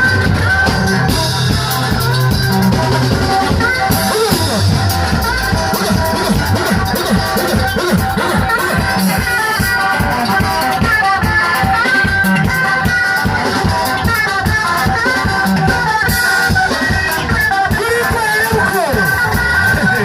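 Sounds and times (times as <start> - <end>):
fast drum beat: 0.0 - 20.0.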